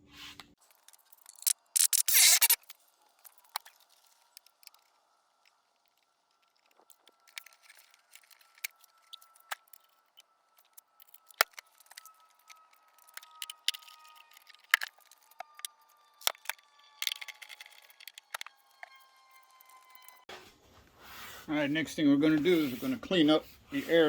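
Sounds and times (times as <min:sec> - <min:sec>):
small parts clicking and clinking: 0:00.6 - 0:20.3.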